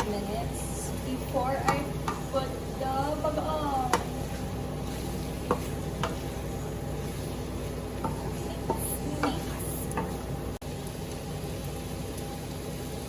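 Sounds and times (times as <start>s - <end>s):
pork sizzling in a wok: 0.0s - 13.0s.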